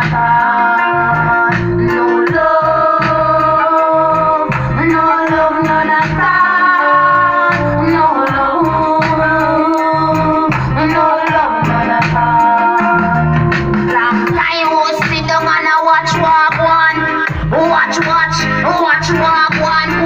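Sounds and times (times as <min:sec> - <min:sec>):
person singing: 0:00.0 - 0:20.0
steady bass beat: 0:00.0 - 0:20.0.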